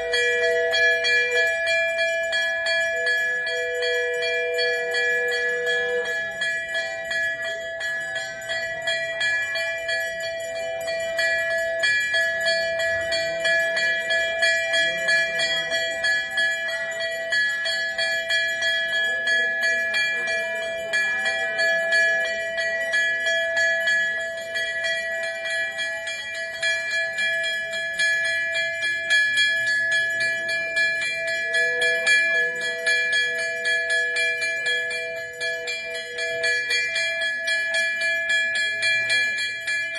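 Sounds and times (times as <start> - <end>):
brass bells ringing: 0.0 - 39.9.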